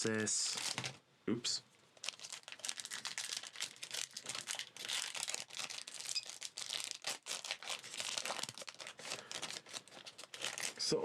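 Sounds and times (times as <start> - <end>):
foil wrapper tearing and crinkling: 0.0 - 1.0, 2.0 - 10.9.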